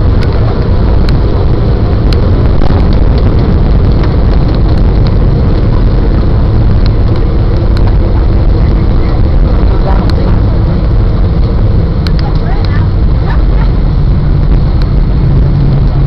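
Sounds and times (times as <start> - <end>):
plane engines and wheels rumbling: 0.0 - 16.0.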